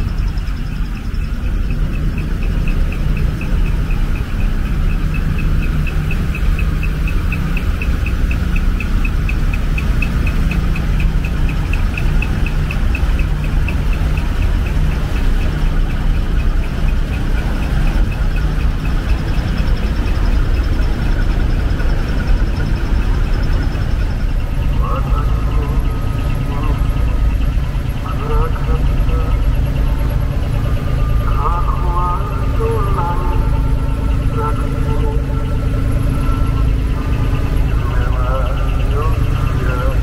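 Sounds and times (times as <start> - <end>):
diesel truck engine idling: 0.0 - 40.0
faint high ticking: 0.0 - 40.0.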